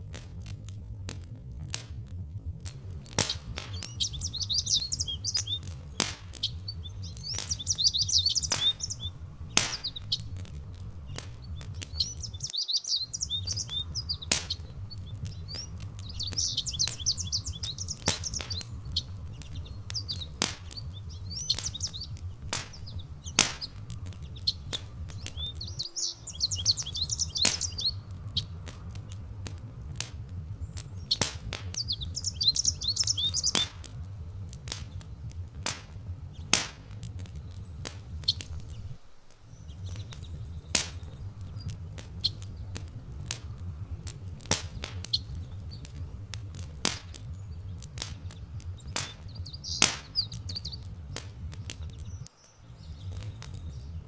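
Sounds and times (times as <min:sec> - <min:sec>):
low rumble: 0:00.0 - 0:54.0
wood fire crackling: 0:00.0 - 0:54.0
songbirds chirping: 0:02.7 - 0:54.0.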